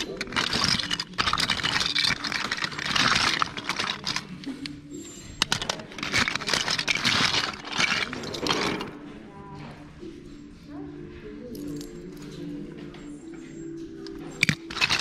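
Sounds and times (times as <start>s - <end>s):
plastic toys clattering: 0.0s - 9.2s, 11.5s - 15.0s.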